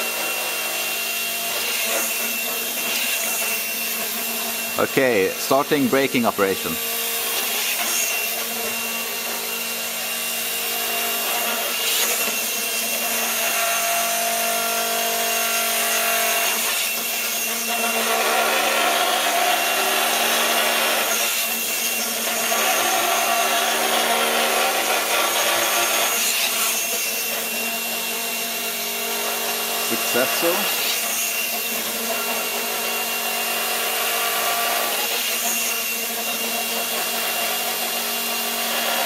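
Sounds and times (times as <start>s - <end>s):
electric motors whirring: 0.0s - 39.0s.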